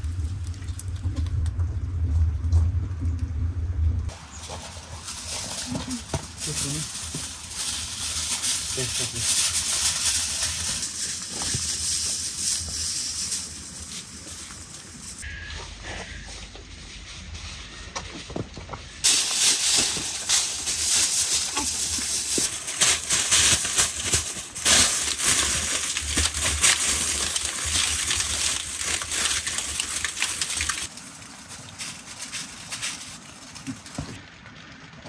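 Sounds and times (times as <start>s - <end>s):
aluminium foil crinkling: 4.1s - 35.0s.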